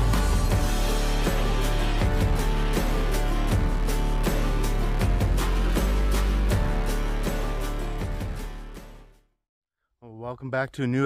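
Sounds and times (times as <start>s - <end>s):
background music with steady beat: 0.0s - 9.2s.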